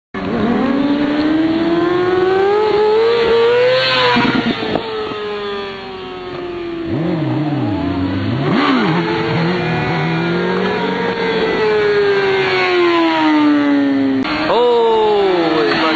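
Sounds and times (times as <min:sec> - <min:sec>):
motorcycle engine accelerating: 0:00.2 - 0:15.9.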